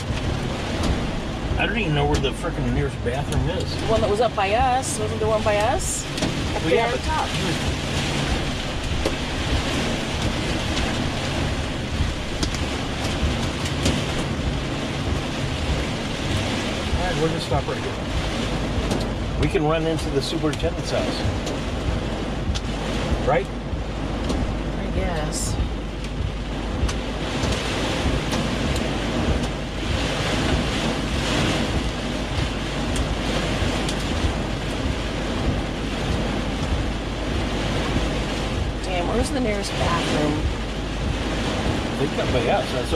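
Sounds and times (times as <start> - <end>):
heavy rain on vehicle roof: 0.0 - 42.9
moving vehicle rumble: 0.0 - 42.9.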